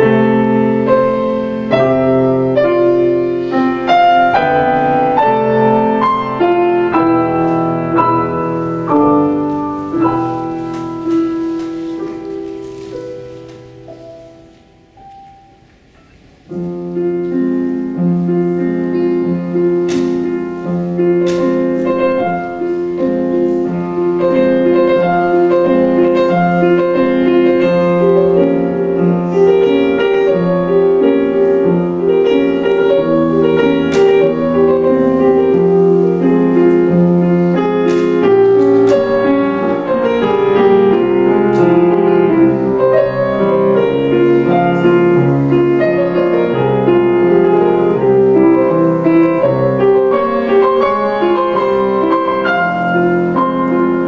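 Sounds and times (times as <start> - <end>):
grand piano classical piece: 0.0 - 54.0.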